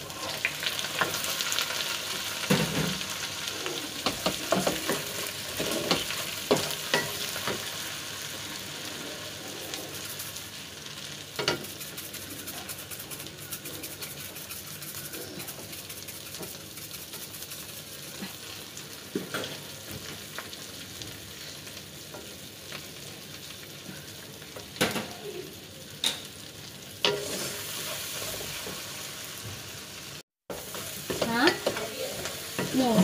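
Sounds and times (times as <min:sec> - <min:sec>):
prawns sizzling in a pan: 0:00.0 - 0:33.0.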